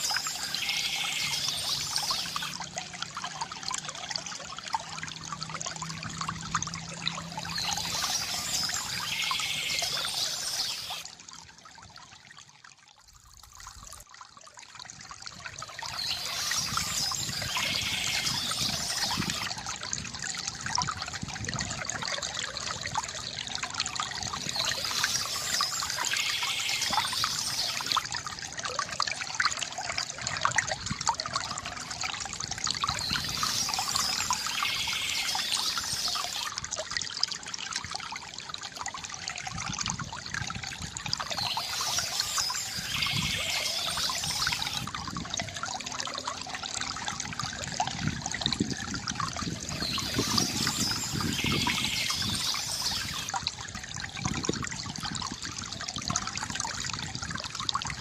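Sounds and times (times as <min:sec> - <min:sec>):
fountain water trickling: 0:00.0 - 0:58.0.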